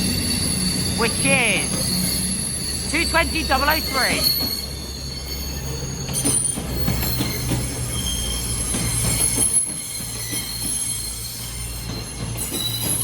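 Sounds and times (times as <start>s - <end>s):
wheels squealing on rail: 0.0s - 2.9s, 3.8s - 13.0s.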